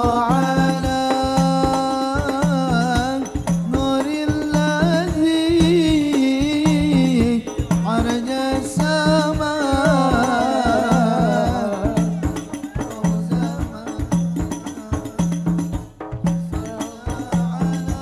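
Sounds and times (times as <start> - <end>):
person singing: 0.0 - 15.6, 16.5 - 18.0
deep bass drum: 0.0 - 18.0
frame drums playing fast rhythm: 0.0 - 18.0.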